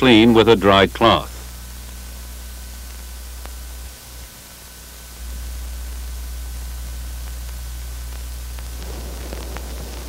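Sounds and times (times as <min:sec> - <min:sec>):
film soundtrack hiss: 0:00.0 - 0:10.0
low hum: 0:00.0 - 0:10.0.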